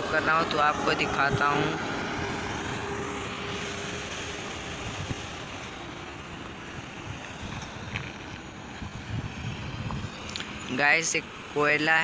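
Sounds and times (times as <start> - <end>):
wind on microphone: 0.0 - 11.0
dump trucks rumbling: 0.0 - 12.0.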